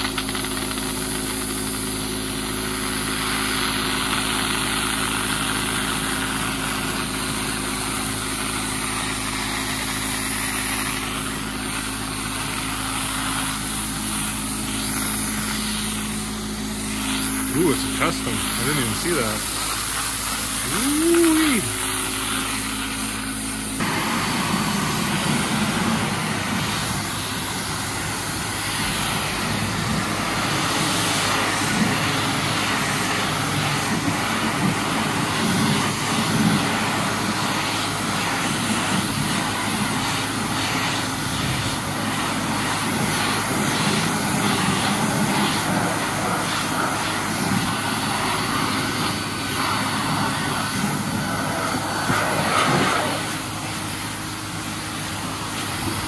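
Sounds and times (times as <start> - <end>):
pressure washer spraying water: 0.0 - 56.0.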